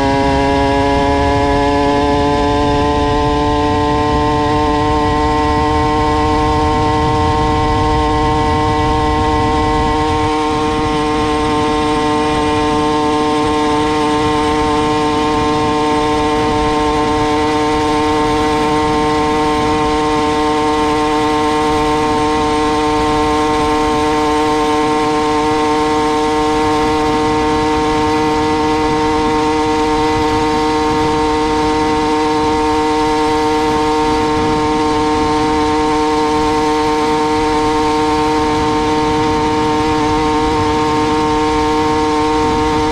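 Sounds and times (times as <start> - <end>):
two-stroke engine at full throttle: 0.0 - 42.9.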